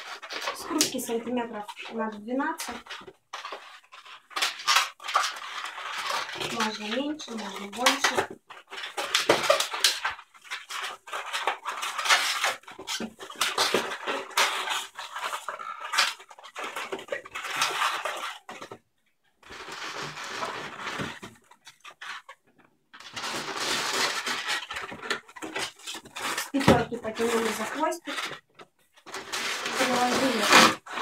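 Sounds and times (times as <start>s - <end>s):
balloon squeaking and rubbing: 0.0s - 18.7s, 19.4s - 22.4s, 23.0s - 31.0s.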